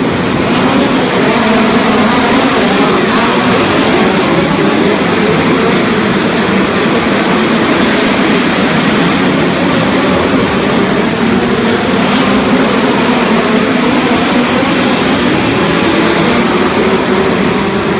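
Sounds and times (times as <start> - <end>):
race car engines roaring: 0.0 - 17.9.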